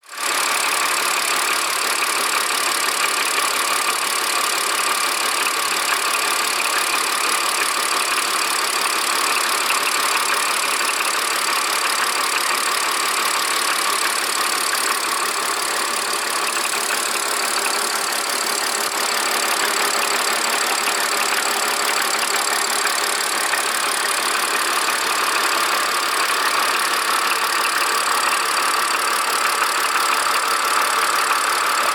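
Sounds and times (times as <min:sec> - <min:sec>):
car engine idling: 0:00.1 - 0:31.9.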